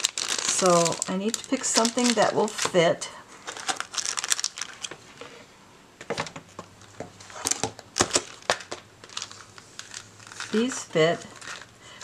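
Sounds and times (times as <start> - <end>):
plastic sleeves crinkling and tapping: 0.0 - 2.8, 3.5 - 5.0, 6.0 - 11.7.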